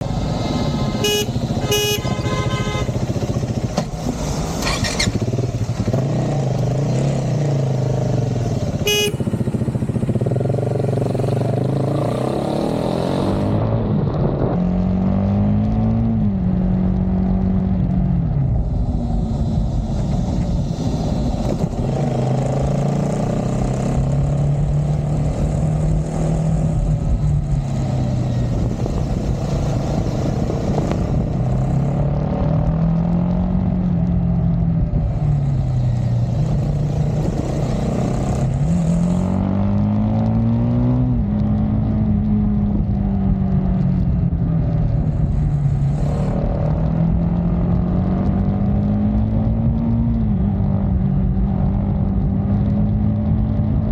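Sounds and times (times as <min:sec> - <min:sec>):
motorcycle engine and exhaust: 0:00.0 - 0:53.9
wind noise: 0:00.0 - 0:53.9.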